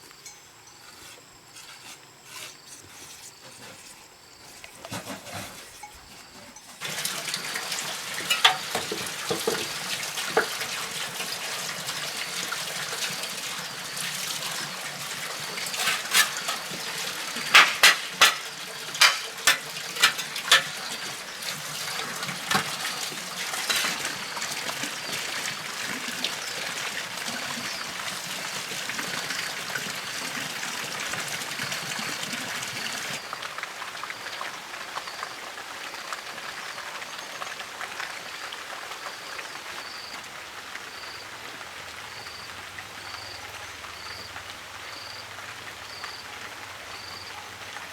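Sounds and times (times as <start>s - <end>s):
running water rushing: 6.6s - 47.9s.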